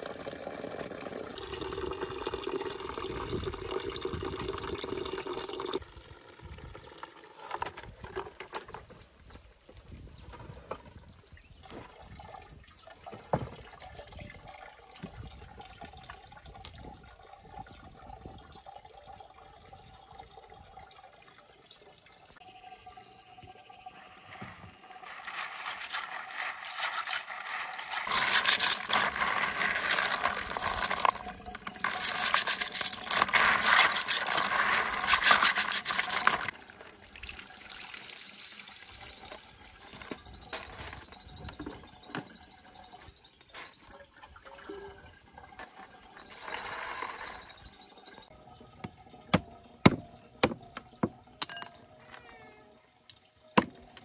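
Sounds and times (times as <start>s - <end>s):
water splashing and pouring: 0.0s - 22.4s, 24.0s - 42.1s, 42.7s - 49.4s.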